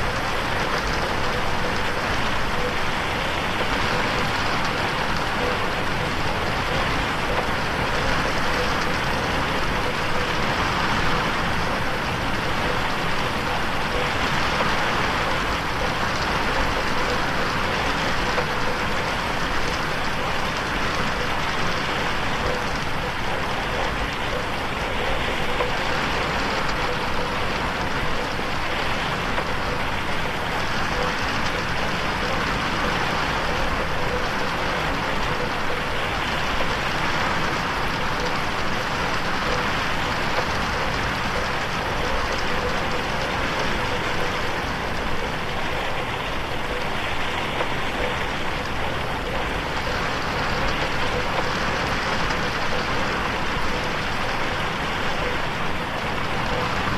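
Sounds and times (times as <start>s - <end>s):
heavy rain on a window: 0.0s - 56.9s.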